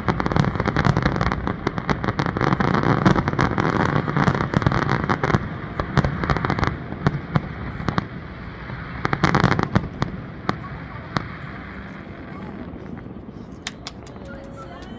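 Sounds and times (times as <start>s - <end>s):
fireworks crackling: 0.0s - 14.9s
fireworks popping: 0.0s - 14.9s.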